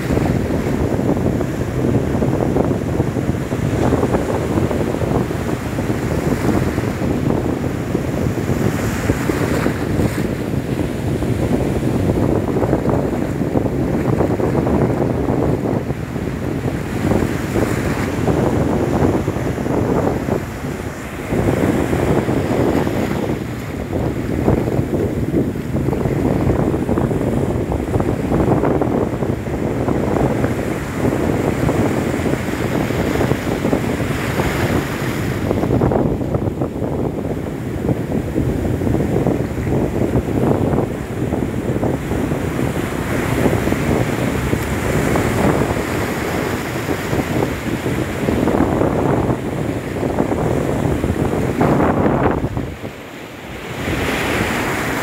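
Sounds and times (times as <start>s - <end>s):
sea surf breaking: 0.0s - 55.0s
wind on microphone: 0.0s - 55.0s.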